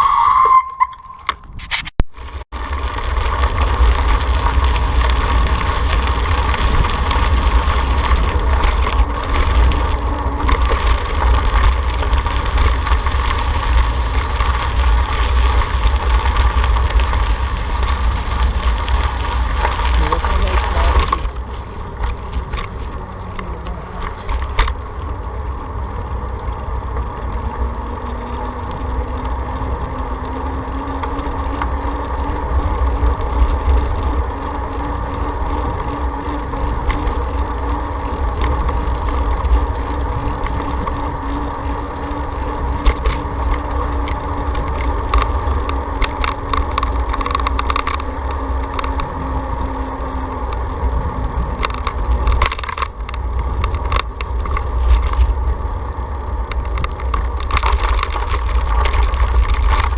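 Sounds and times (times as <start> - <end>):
bicycle road noise: 0.0 - 59.9
wind noise on microphone: 0.0 - 59.9
short ticks and rattles: 2.6 - 59.9.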